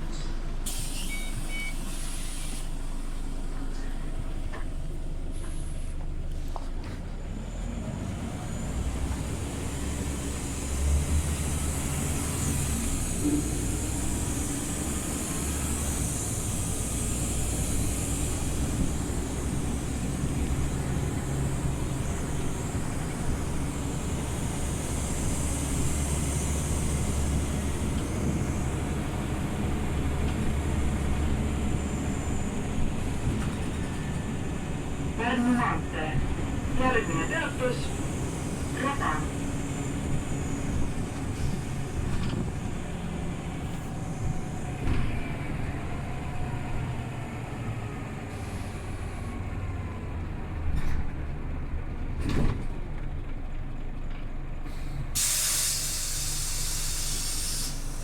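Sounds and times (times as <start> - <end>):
bus diesel engine running: 0.0 - 58.0
road and tyre noise: 0.0 - 58.0.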